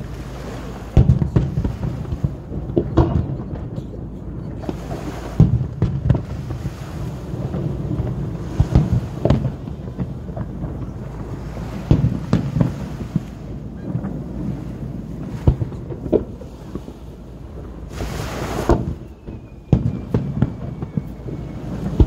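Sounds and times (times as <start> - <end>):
fireworks booming: 0.0 - 22.0.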